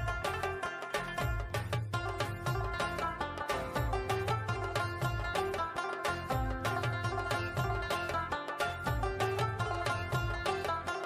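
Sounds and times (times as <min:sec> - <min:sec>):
folk music with plucked strings: 0:00.0 - 0:11.0.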